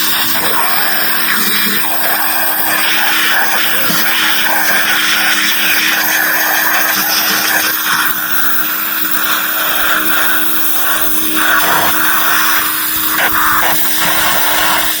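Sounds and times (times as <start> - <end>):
pressure washer motor hum: 0.0 - 15.0
water jet hissing: 0.0 - 15.0.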